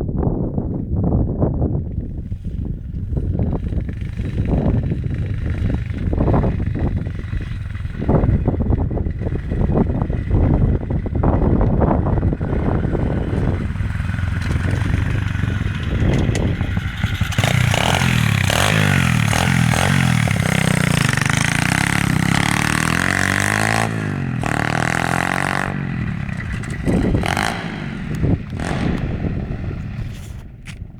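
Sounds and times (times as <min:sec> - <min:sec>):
pit bike engine revving: 0:03.2 - 0:30.4.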